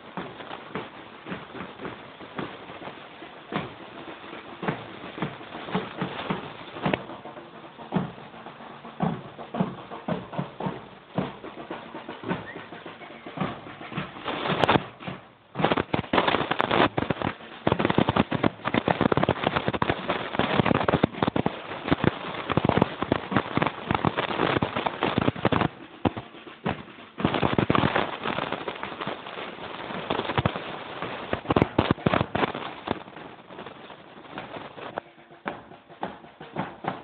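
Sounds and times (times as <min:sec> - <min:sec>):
firecrackers popping: 0:00.0 - 0:37.0.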